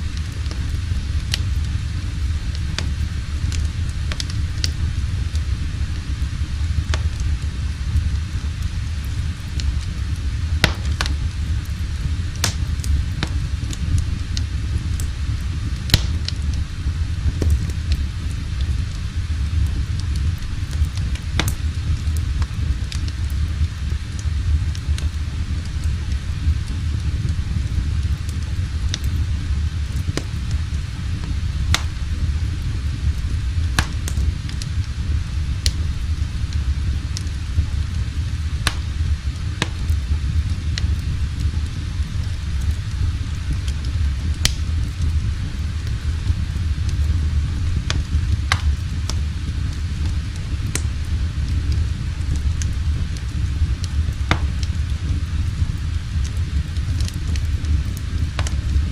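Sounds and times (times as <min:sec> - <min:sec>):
fire crackling: 0:00.0 - 0:58.9
fire rumbling: 0:00.0 - 0:58.9.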